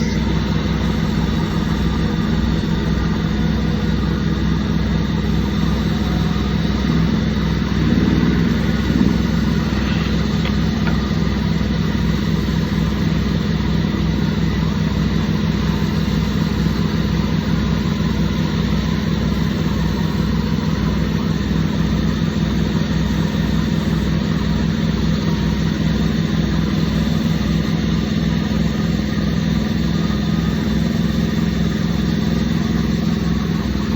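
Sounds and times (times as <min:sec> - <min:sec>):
sawmill engine running: 0:00.0 - 0:33.9.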